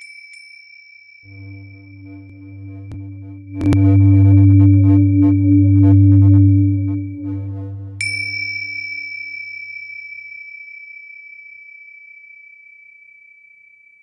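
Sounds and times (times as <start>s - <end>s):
singing bowl ringing: 0.0s - 12.8s.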